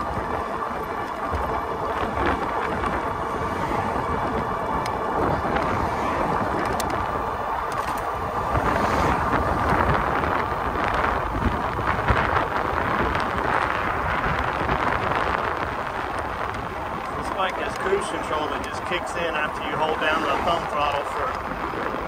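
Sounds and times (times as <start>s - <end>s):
bike road noise on asphalt: 0.0s - 22.0s
wind rush on microphone: 0.0s - 22.0s.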